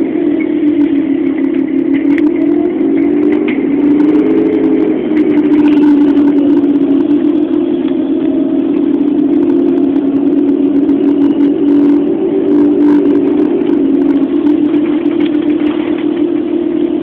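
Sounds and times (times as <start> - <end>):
bus engine droning hum: 0.0 - 17.0.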